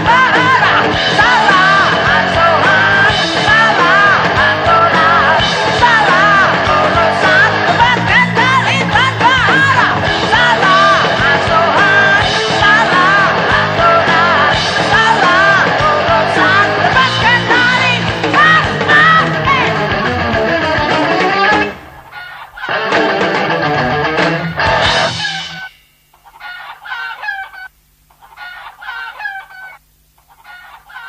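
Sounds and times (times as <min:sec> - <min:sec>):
rock band playing: 0:00.0 - 0:25.9.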